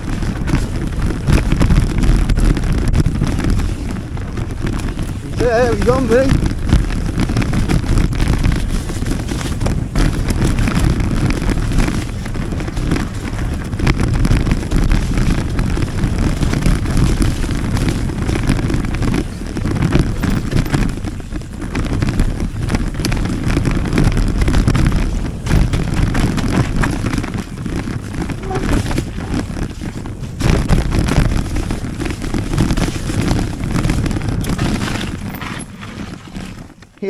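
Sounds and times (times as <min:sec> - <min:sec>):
bike rattling over bumps: 0:00.0 - 0:37.0
tyres rolling over dirt: 0:00.0 - 0:37.0
wind buffeting microphone: 0:00.0 - 0:37.0.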